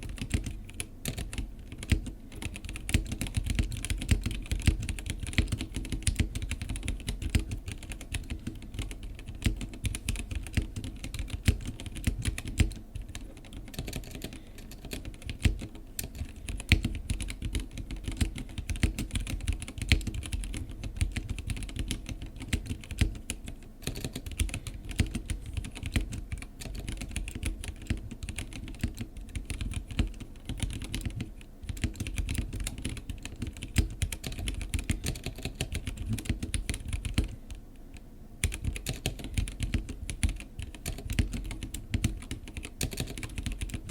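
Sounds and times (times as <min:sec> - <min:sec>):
mechanical keyboard typing: 0:00.0 - 0:37.5, 0:38.4 - 0:43.9.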